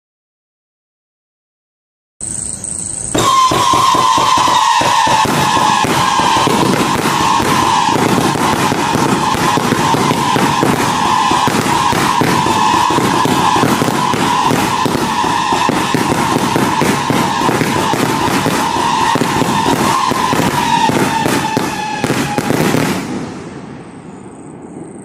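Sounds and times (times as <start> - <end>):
shrill firework whistle: 3.1 - 23.4
firework cracking bangs: 3.1 - 24.2.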